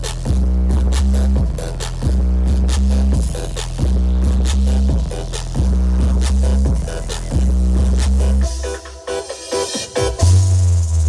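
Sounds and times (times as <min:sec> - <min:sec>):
loud electronic dance music: 0:00.0 - 0:11.0.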